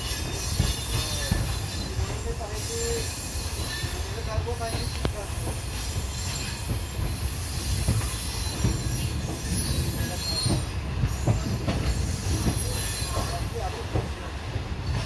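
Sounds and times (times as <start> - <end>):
train coaches rumbling: 0.0 - 15.0
wheels clacking over rail joints: 0.0 - 15.0.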